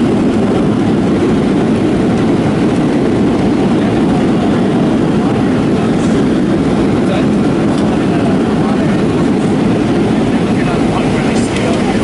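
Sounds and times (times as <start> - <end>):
jet airliner cabin rumble: 0.0 - 12.0.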